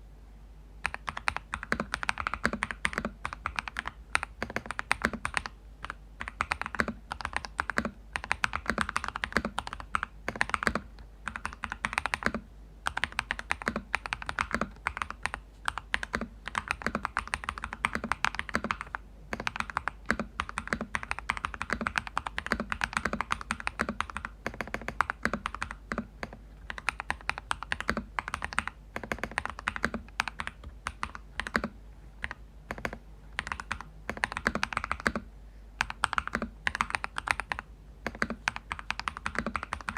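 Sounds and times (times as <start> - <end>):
mechanical keyboard typing: 0.8 - 39.9.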